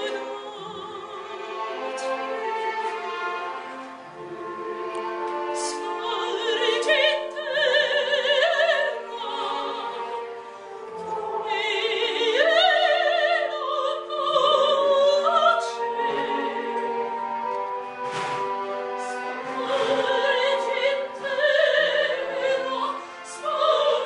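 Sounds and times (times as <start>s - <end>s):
instrumental accompaniment: 0.0s - 24.0s
operatic singing with vibrato: 0.0s - 24.0s.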